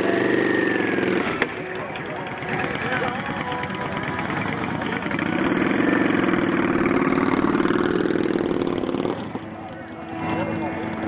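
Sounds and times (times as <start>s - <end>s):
motorcycle engine passing slowly: 0.0s - 11.0s.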